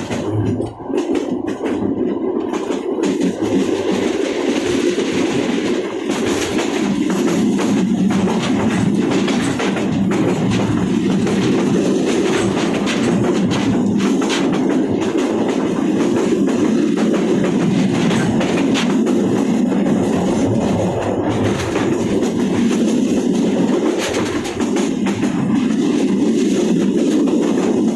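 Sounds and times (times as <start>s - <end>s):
train rumbling on tracks: 0.0s - 27.9s
wheels clacking over rail joints: 0.0s - 27.9s.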